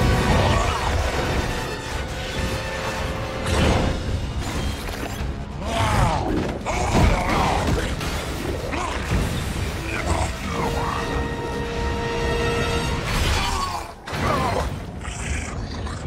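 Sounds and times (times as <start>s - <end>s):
dramatic music: 0.0s - 16.0s.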